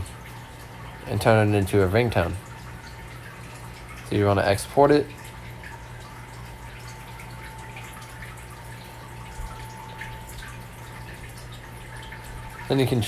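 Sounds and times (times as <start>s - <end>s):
constant low hum: 0.0s - 13.0s
water trickling and dripping: 0.0s - 13.0s.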